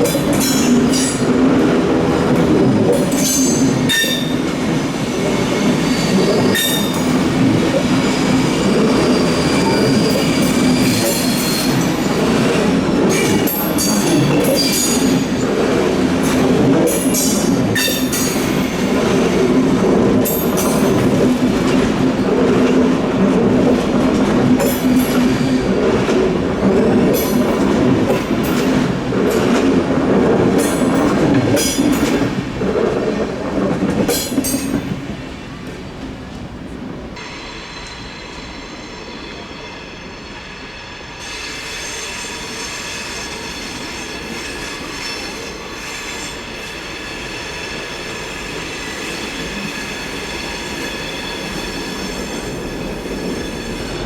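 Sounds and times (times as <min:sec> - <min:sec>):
train wheel rumble: 0:00.0 - 0:54.0
wheel flanges squealing on rails: 0:02.9 - 0:29.8, 0:37.2 - 0:54.0.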